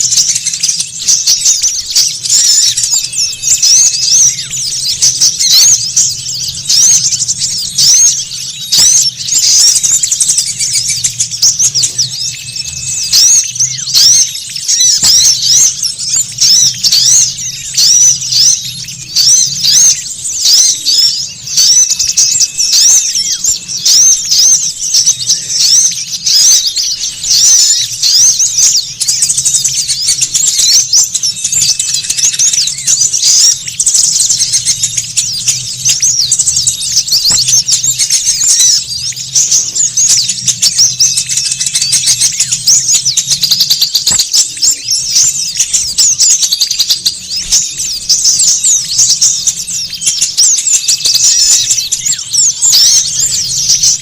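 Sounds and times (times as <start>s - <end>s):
small songbirds twittering: 0.0s - 54.0s.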